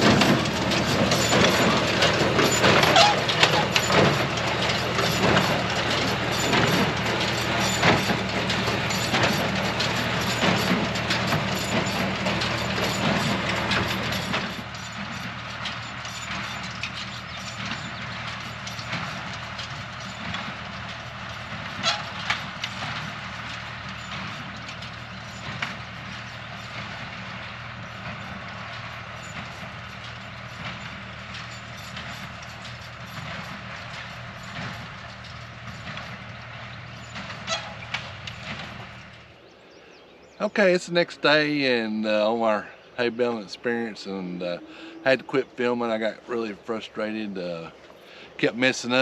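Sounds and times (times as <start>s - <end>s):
baler mechanism clattering: 0.0s - 39.4s
tractor engine running: 0.0s - 49.0s.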